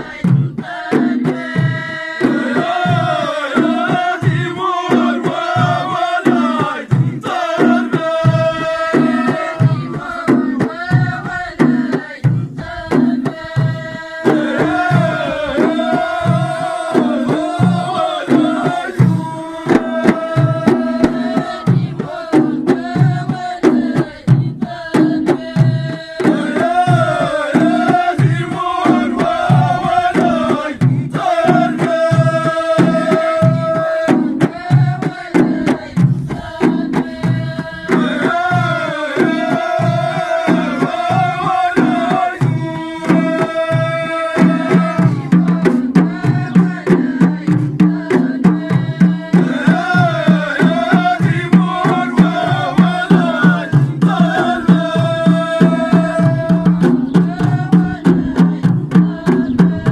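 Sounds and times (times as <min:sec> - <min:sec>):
frame drum beats: 0:00.0 - 0:59.9
group singing in chorus: 0:00.0 - 0:59.9.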